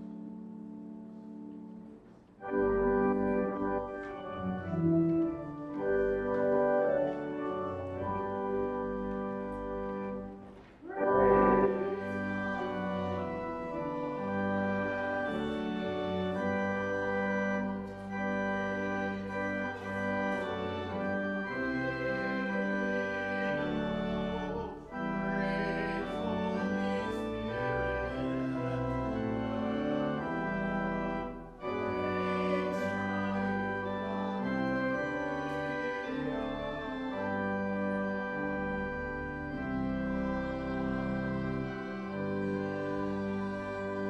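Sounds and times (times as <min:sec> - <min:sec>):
organ playing sustained chords: 0:00.0 - 0:44.0.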